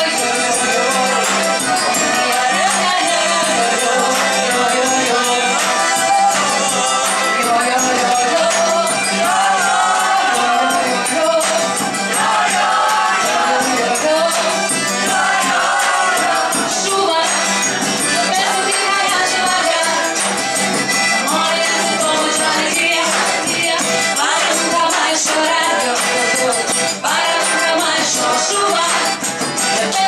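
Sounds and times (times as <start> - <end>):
woman singing into a microphone: 0.0 - 11.8, 13.1 - 20.3, 21.2 - 30.0
accordion: 0.0 - 30.0
jingling percussion: 0.0 - 30.0
strummed acoustic guitar: 0.0 - 30.0.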